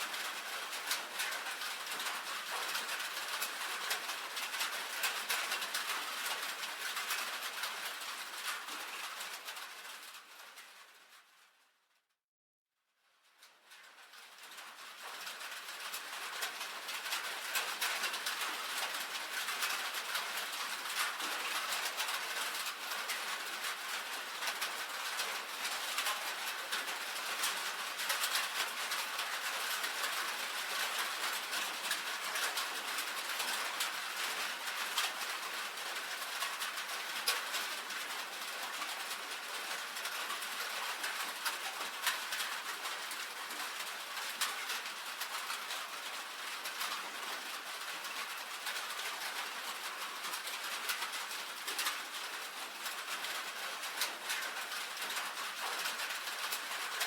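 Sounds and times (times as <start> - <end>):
rain on a tin roof: 0.0 - 12.1, 12.9 - 57.0.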